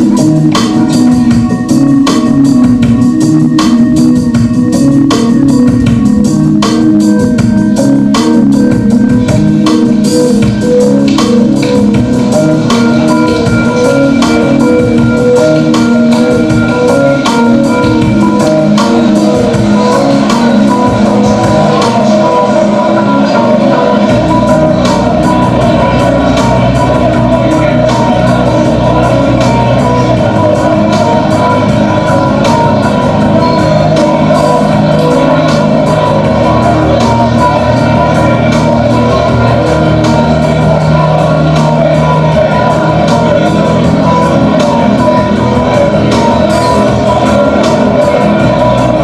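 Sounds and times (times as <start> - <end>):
loud music with percussion: 0.0 - 49.0.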